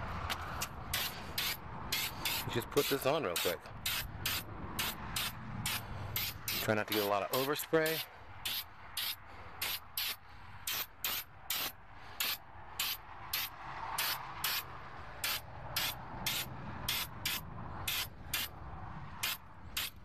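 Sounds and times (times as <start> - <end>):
spray paint can hissing: 0.3 - 18.5, 19.2 - 20.0.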